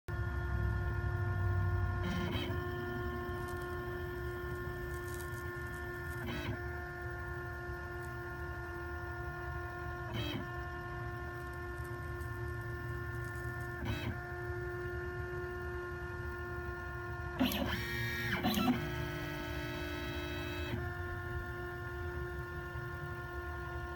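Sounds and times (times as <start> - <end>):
stepper motors whining: 0.2 - 23.9.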